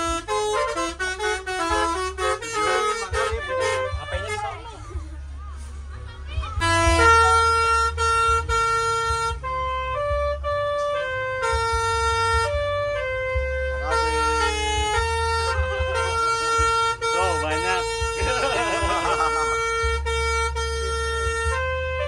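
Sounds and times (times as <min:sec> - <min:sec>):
bus horn playing a tune: 0:00.0 - 0:05.0, 0:05.6 - 0:22.0
low engine rumble: 0:00.0 - 0:22.0.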